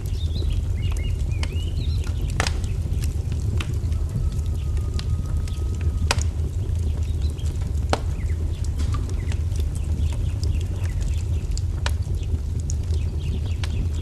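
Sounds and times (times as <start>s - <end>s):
fire popping: 0.0s - 14.0s
wood fire crackling: 0.0s - 14.0s.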